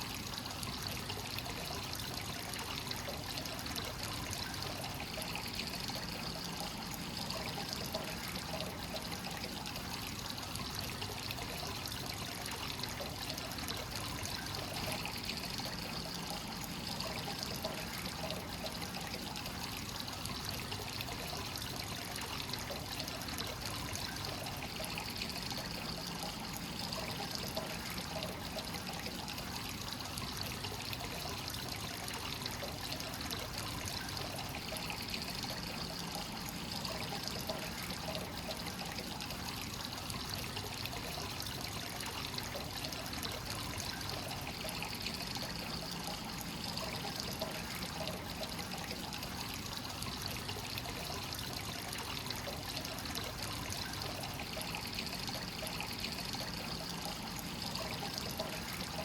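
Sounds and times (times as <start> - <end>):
water pouring into a bath: 0.0 - 59.0.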